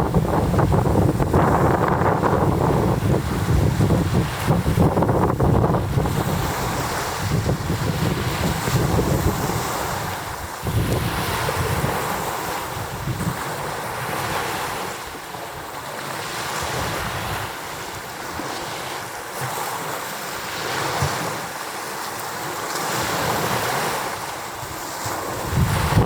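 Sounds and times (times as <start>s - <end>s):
wind buffeting microphone: 0.0s - 15.7s, 16.4s - 19.1s, 22.8s - 26.0s
surf pounding the shore: 0.0s - 26.0s.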